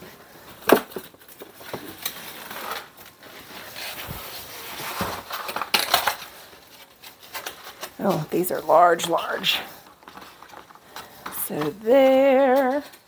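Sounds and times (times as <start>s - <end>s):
egg carton crinkling: 0.0s - 13.0s.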